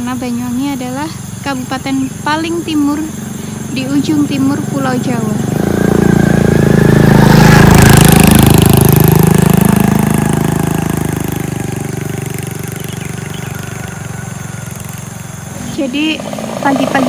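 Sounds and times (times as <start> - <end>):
small motorcycle passing by: 0.0 - 17.0.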